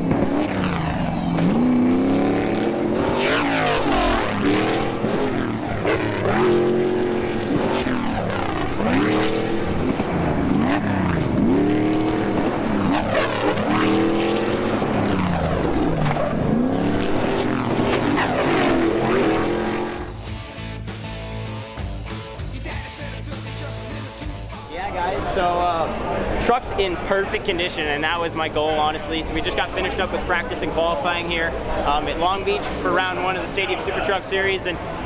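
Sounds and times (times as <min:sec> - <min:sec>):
racing truck engines passing: 0:00.0 - 0:21.0, 0:23.3 - 0:35.0.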